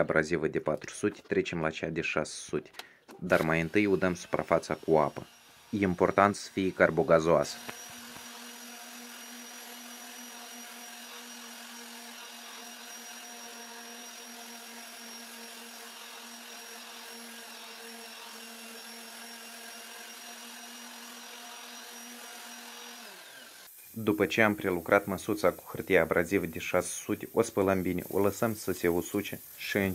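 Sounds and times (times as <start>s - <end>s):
orbital sander humming: 3.3s - 29.9s.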